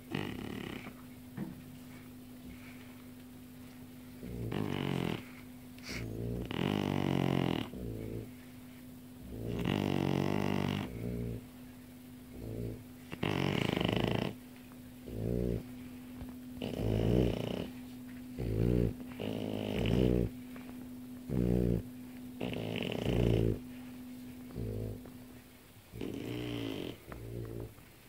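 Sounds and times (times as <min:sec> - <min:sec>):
pet snoring: 0:00.0 - 0:01.0, 0:04.2 - 0:08.5, 0:09.2 - 0:11.6, 0:12.2 - 0:14.4, 0:15.0 - 0:27.8
faint steady hum: 0:00.0 - 0:28.0.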